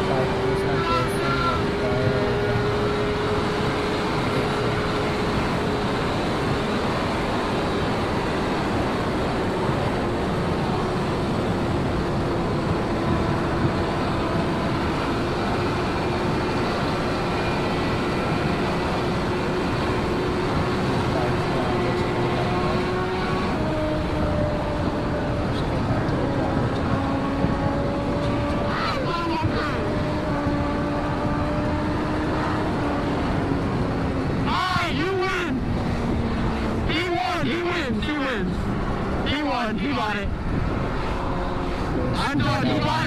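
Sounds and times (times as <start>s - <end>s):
motorcycle engine at speed: 0.0s - 34.5s, 35.6s - 36.9s, 40.3s - 43.0s
wind rush on microphone: 0.0s - 34.9s, 38.4s - 43.0s.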